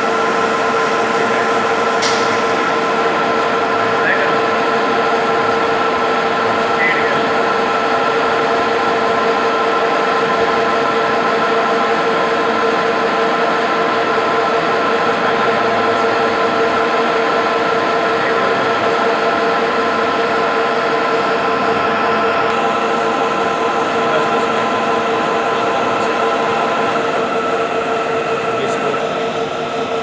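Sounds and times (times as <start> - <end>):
lathe running: 0.0 - 30.0.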